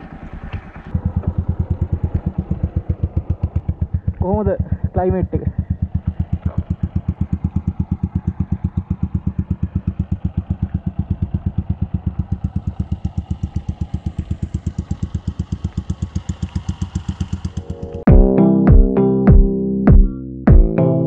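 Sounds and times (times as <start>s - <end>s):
motorcycle engine idling: 0.0s - 18.4s.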